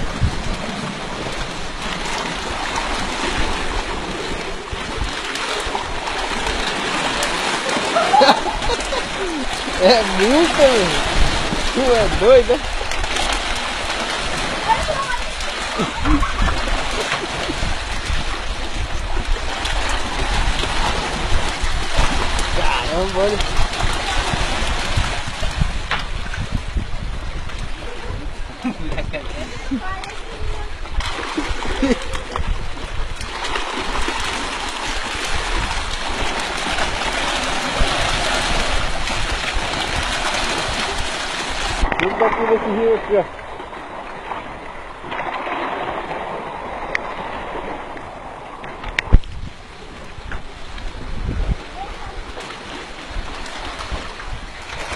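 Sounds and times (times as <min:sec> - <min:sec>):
shallow water splashing: 0:00.0 - 0:54.9.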